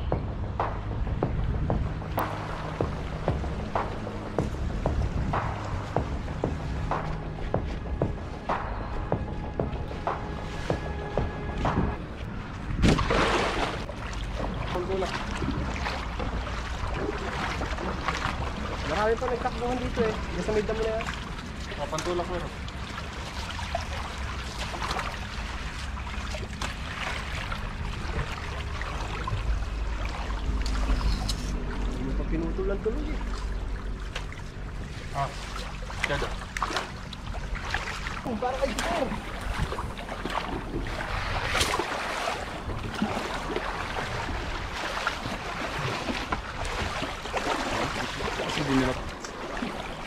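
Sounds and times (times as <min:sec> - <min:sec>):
low rumble: 0:00.0 - 0:50.0
stream water running and splashing: 0:02.0 - 0:50.0.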